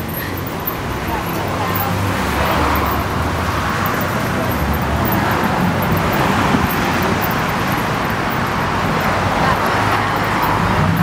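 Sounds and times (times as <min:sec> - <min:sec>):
passing cars rushing: 0:00.0 - 0:11.0.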